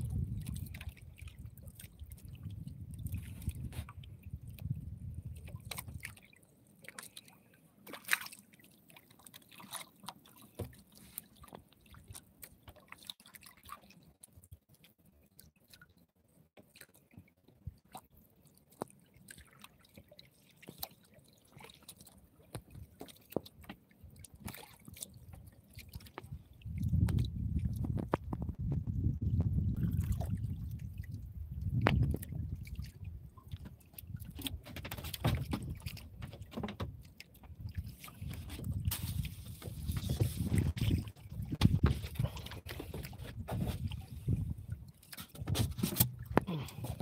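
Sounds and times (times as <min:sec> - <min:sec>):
water lapping against a boat: 0:00.0 - 0:47.0.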